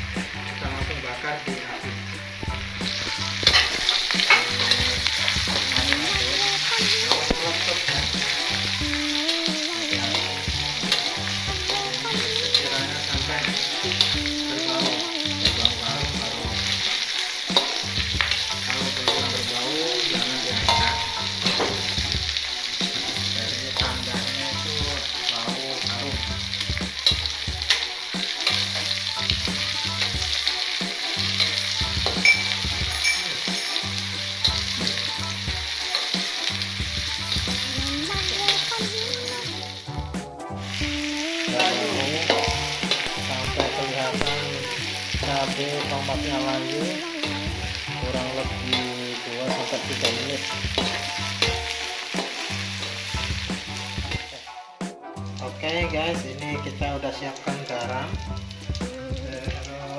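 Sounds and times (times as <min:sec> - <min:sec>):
vegetables sizzling in hot oil: 0:00.0 - 0:54.6, 0:55.3 - 0:59.9.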